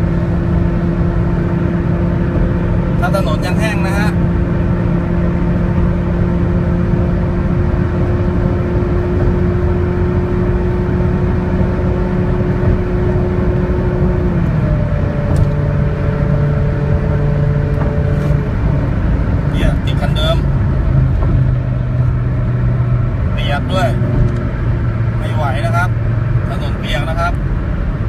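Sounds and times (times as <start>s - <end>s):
car engine at high revs: 0.0s - 28.0s
road noise: 0.0s - 28.0s.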